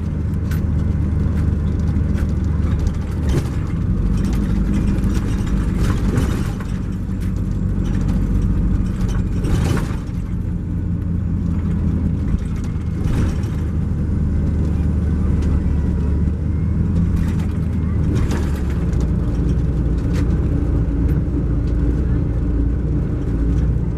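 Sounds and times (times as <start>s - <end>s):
coach diesel engine drone: 0.0s - 23.9s.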